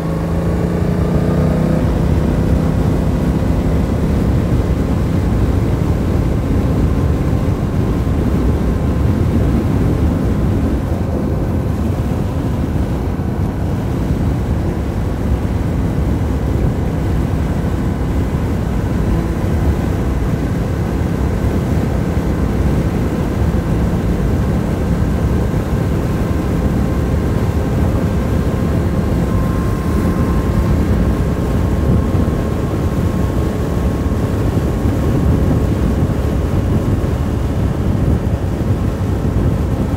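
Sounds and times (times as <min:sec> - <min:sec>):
motorcycle engine cruising: 0:00.0 - 0:39.9
wind rush over microphone: 0:00.0 - 0:39.9.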